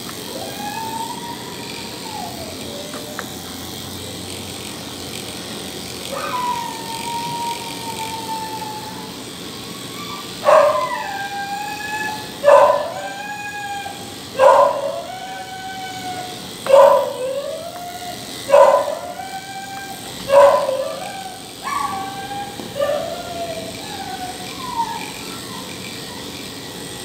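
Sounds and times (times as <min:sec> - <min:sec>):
dog whining and crying: 0:00.2 - 0:03.6, 0:06.0 - 0:27.0.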